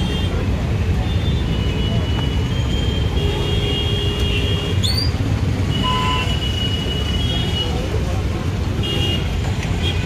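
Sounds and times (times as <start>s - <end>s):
idling engines and traffic: 0.0s - 10.0s.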